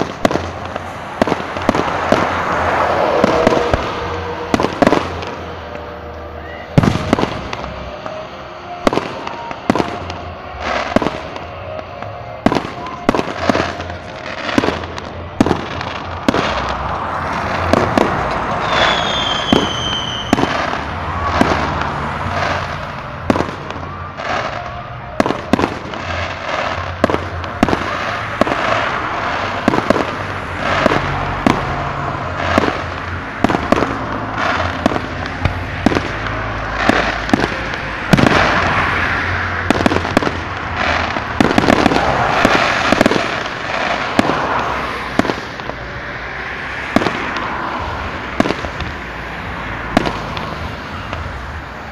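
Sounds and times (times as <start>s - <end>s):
high firework whistle: 0.0s - 45.7s
fireworks bursting bangs: 0.0s - 51.9s.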